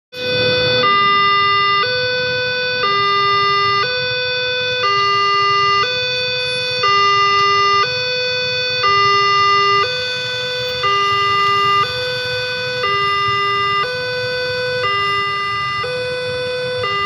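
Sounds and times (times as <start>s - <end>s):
idling traffic rumble: 0.1s - 17.0s
two-tone crossing alarm: 0.1s - 17.0s.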